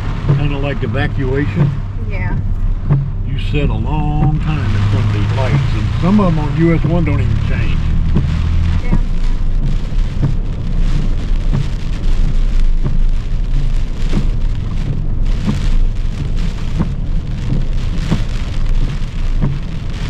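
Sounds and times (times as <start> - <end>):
heavy rain on a car: 0.0 - 20.0
low rumble: 0.0 - 20.0.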